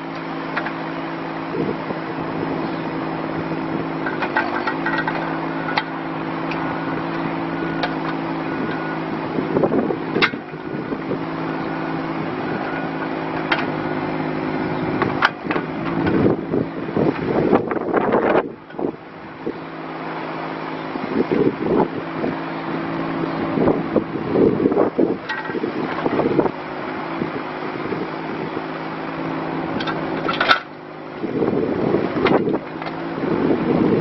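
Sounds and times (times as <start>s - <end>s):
mini excavator diesel engine running: 0.0s - 34.0s.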